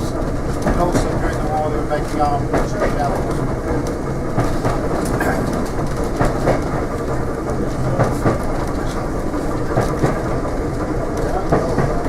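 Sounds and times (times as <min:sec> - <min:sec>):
train carriage rumble and rattle: 0:00.0 - 0:12.0
wheels clicking over rail joints: 0:00.0 - 0:12.0.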